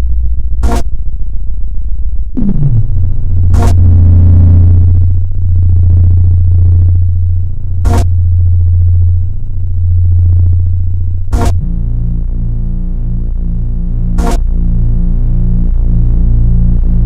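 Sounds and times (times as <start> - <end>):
loud low-pitched tone: 0.0 - 17.0.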